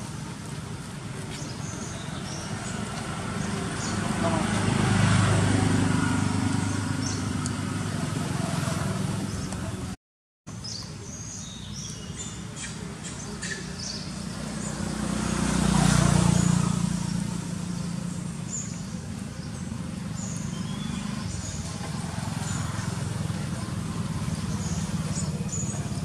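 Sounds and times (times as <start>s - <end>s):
vehicle passing rumble: 0.0s - 10.0s, 12.1s - 26.0s
small birds chirping: 0.0s - 26.0s.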